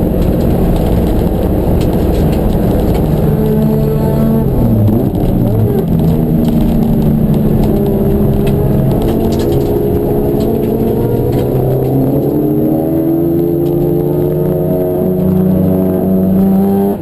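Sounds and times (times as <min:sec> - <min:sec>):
racing car engines: 0:00.0 - 0:17.0.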